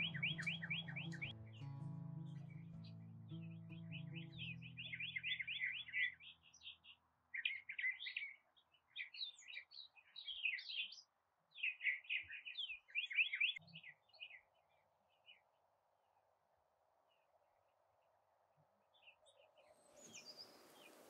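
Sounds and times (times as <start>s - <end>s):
songbirds chirping and trilling: 0.0s - 15.4s, 18.9s - 21.0s.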